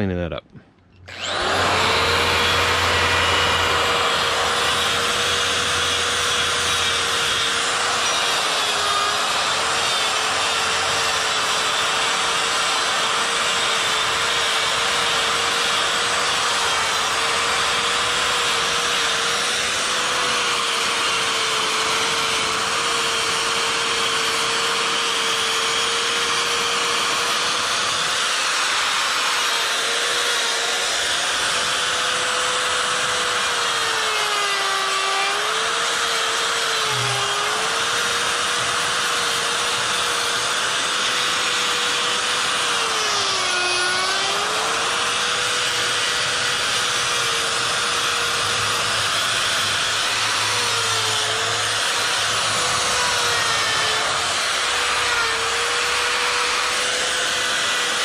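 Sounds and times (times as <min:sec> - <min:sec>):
die grinder cutting wood: 0:01.0 - 0:58.0.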